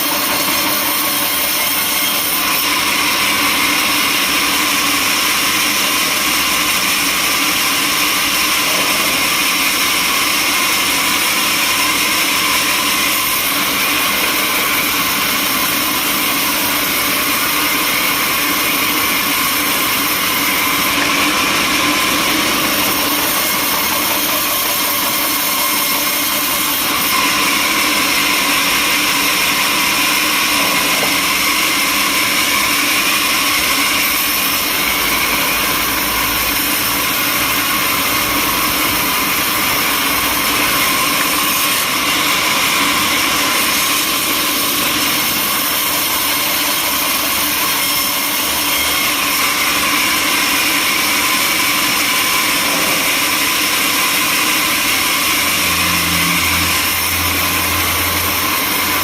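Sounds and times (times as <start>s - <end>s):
sawmill machinery whine and hiss: 0.0s - 59.0s.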